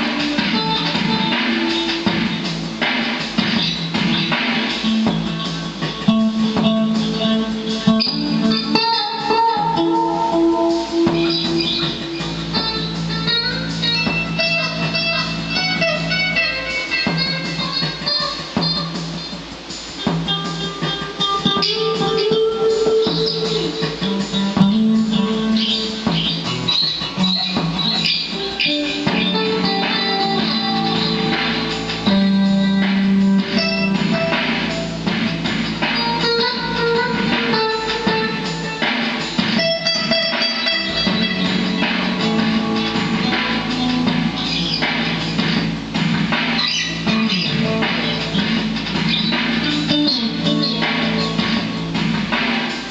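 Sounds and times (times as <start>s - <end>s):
electric guitar notes with echo: 0.0s - 19.4s, 20.0s - 52.9s
drum hits: 0.0s - 52.9s.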